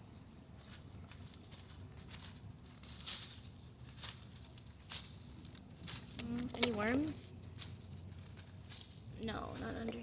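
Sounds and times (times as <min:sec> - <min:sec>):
stick scraping through dry leaves: 0:00.0 - 0:10.0.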